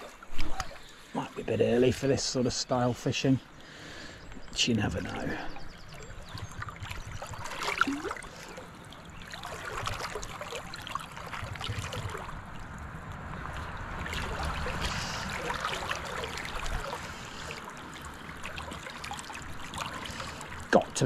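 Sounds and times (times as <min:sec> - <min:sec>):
river water running and lapping: 0:00.0 - 0:21.0.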